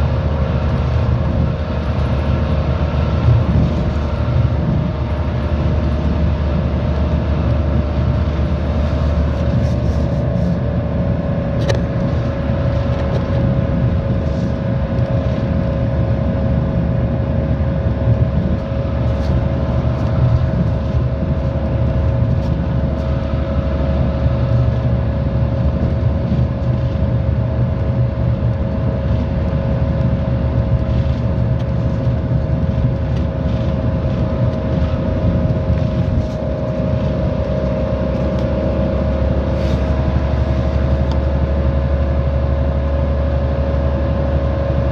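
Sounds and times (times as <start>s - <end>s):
bus engine drone: 0.0s - 44.9s
steady whine: 0.0s - 44.9s.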